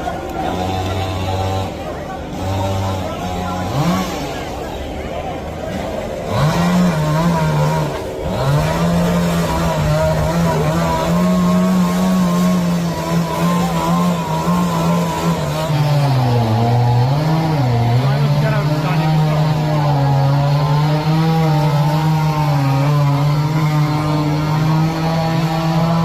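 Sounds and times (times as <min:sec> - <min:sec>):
chainsaw running at high revs: 0:00.0 - 0:26.0.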